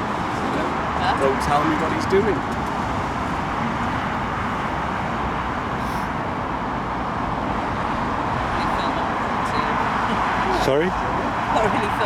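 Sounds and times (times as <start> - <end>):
cars passing on busy road: 0.0 - 12.0.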